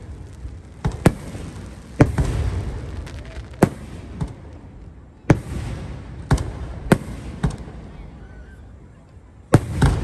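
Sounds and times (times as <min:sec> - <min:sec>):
firework shells booming: 0:00.0 - 0:07.9, 0:09.5 - 0:10.0.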